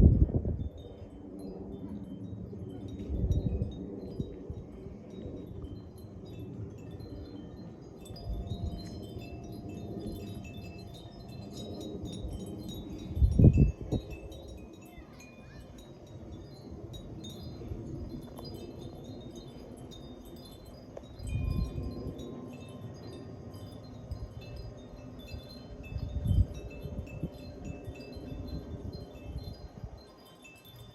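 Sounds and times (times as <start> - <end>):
wind chimes ringing: 0.0 - 30.9.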